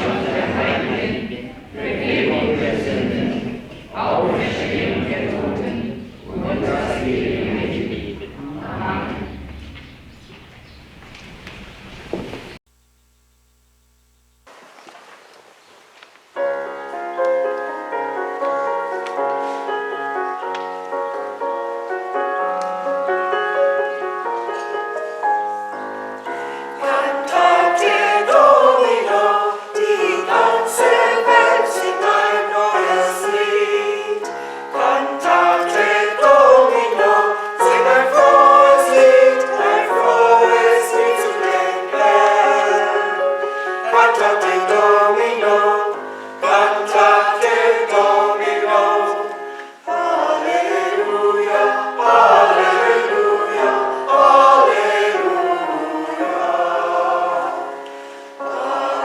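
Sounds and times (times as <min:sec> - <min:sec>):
church choir singing: 0:00.0 - 0:10.5, 0:16.4 - 0:59.0.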